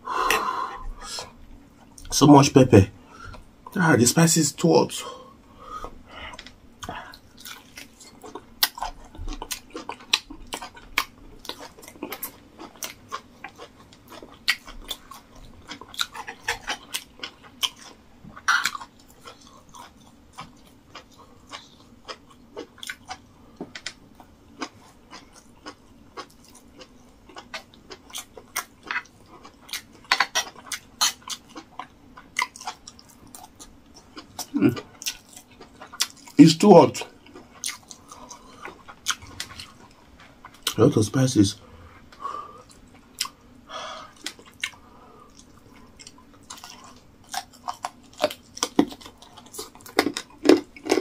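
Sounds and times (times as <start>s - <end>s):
man chewing and lip-smacking: 5.8s - 40.8s, 42.0s - 51.0s.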